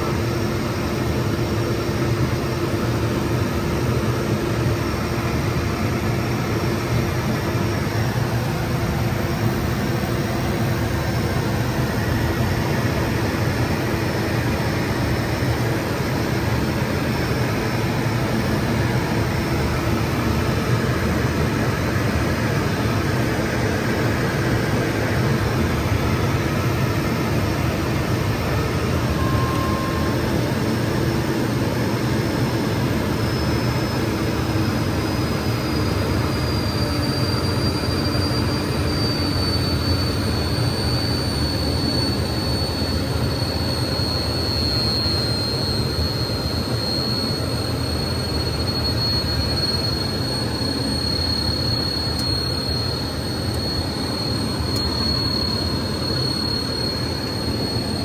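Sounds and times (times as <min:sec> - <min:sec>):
jet cockpit rush and hum: 0:00.0 - 0:58.0.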